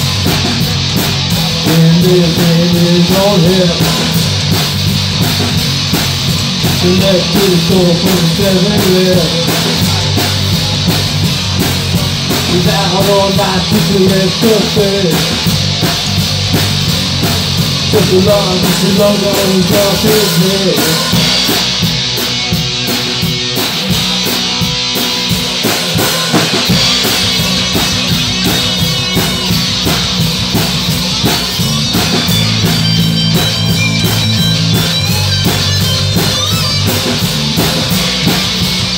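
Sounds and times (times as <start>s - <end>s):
bending lead guitar melody: 0.0s - 38.9s
live rock band playing: 0.0s - 38.9s.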